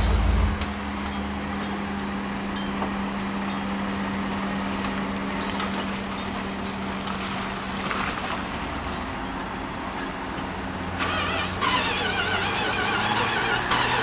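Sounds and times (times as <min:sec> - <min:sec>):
broad outdoor noise: 0:00.0 - 0:14.0
engine humming steadily: 0:00.0 - 0:14.0.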